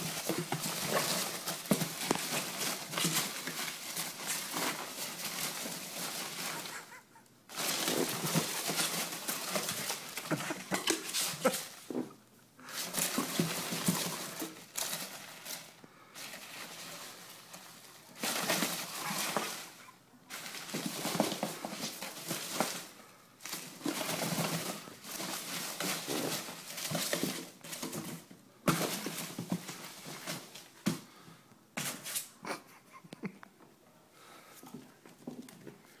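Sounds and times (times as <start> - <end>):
packing peanuts rustling and squeaking: 0.0 - 30.8.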